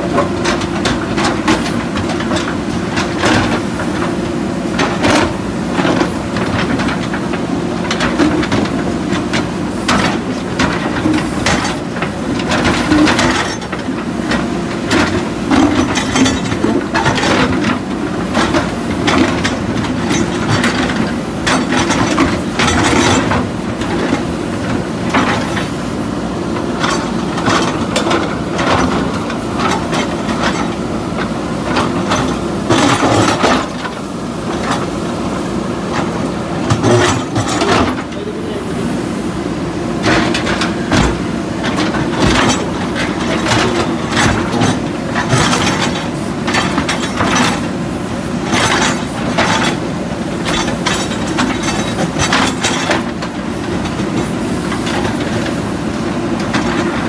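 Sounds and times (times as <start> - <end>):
diesel engines running under load: 0.0 - 57.0.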